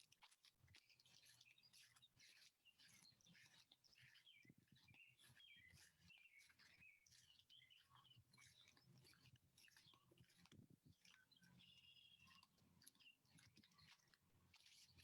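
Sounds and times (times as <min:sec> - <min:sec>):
faint birds chirping: 0:01.3 - 0:15.0.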